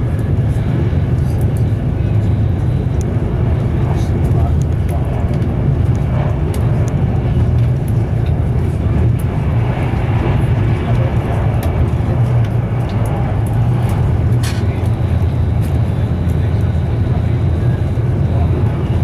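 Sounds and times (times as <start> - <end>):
train rumble inside coach: 0.0 - 19.0.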